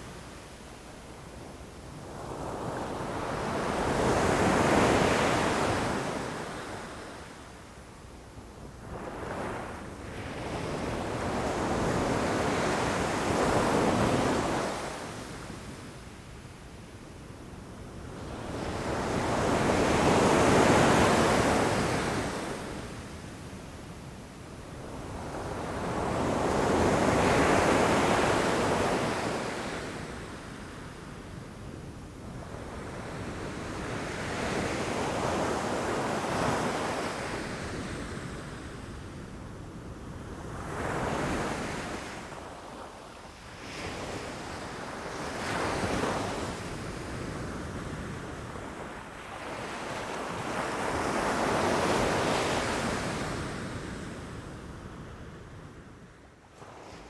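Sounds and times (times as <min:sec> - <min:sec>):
wind: 0:00.0 - 0:57.0.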